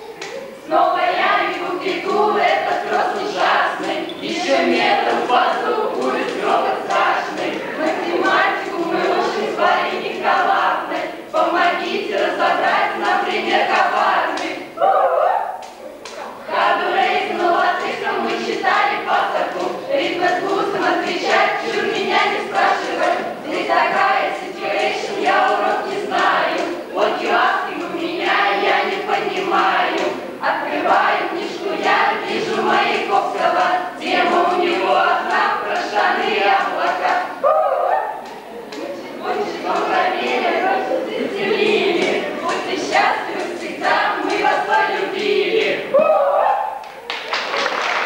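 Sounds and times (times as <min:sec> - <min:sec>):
girls singing together: 0:00.0 - 0:47.2.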